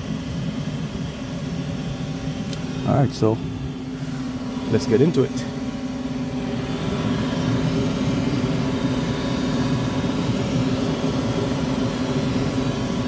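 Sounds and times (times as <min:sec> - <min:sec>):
furnace humming: 0:00.0 - 0:13.0.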